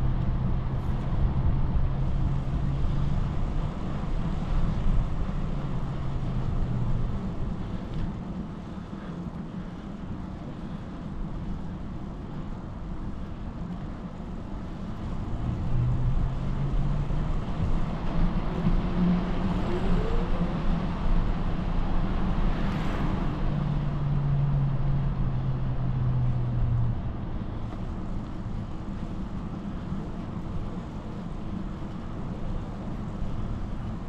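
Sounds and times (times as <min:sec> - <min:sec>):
bicycle tyres on pavement: 0:00.8 - 0:23.2, 0:27.5 - 0:34.0.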